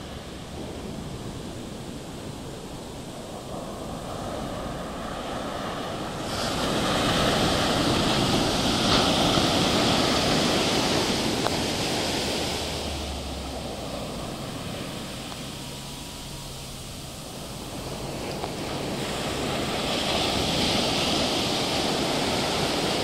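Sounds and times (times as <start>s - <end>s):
ocean waves breaking on sand: 0.0s - 23.0s.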